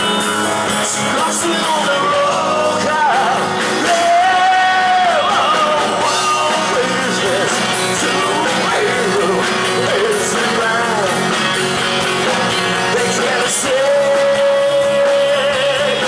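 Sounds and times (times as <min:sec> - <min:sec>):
rock band playing: 0:00.0 - 0:16.0
singer belting melody: 0:00.0 - 0:16.0.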